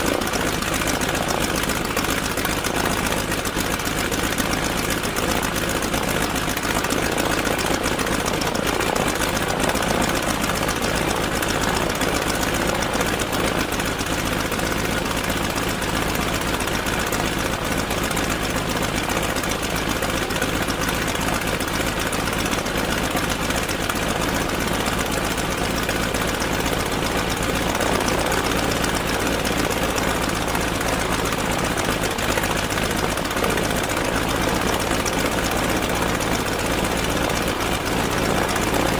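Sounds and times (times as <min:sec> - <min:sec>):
radial aircraft engine idling: 0:00.0 - 0:38.9.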